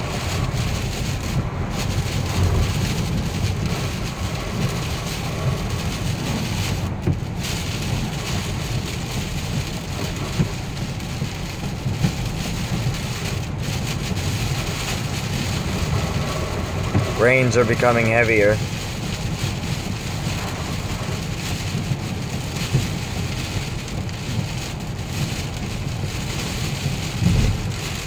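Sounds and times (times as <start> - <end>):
heavy rain drumming on a car: 0.0 - 28.0
low rumble inside car: 0.0 - 28.0
road and wind noise: 0.0 - 28.0.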